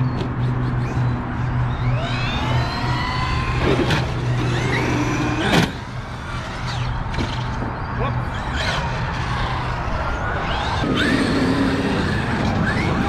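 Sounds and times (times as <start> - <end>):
rc truck motor whining: 0.0 - 7.6, 8.2 - 13.0.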